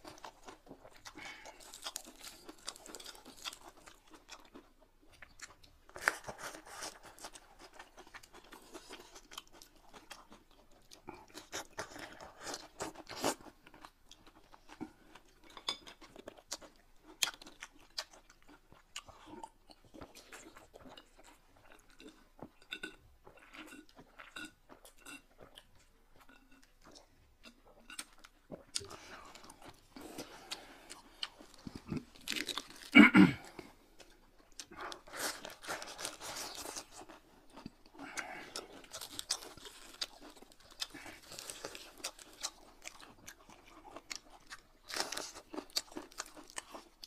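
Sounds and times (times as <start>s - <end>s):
chewing and crunching food: 0.0s - 47.0s.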